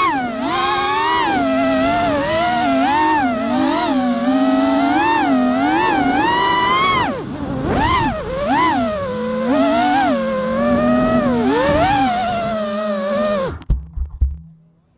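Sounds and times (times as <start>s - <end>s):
quadcopter motors buzzing whine: 0.0s - 13.6s.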